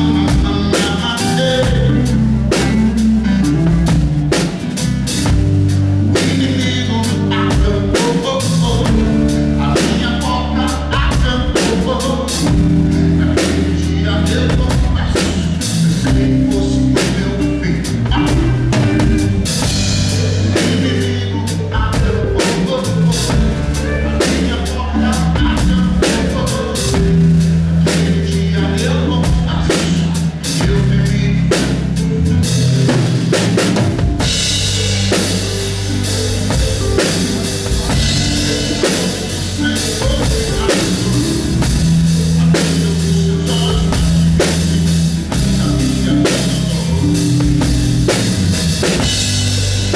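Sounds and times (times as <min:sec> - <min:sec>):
live band playing: 0:00.0 - 0:49.9
sustained bass notes: 0:00.0 - 0:49.9.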